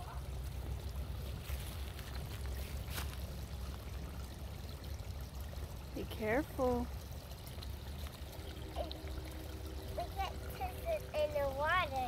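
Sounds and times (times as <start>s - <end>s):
steady low rumble: 0.0s - 12.0s
stream trickling over rocks: 0.0s - 12.0s.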